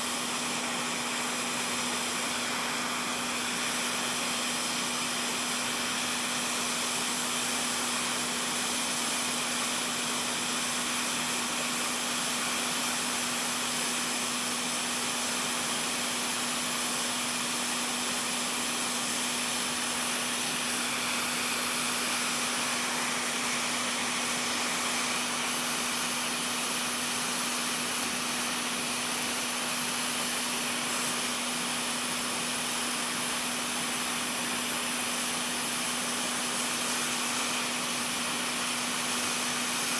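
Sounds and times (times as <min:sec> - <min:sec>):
electric blower hissing: 0:00.0 - 0:39.9.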